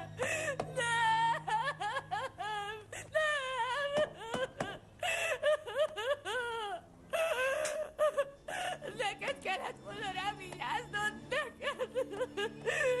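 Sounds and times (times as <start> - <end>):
woman wailing and sobbing: 0.0 - 9.8, 10.6 - 13.0.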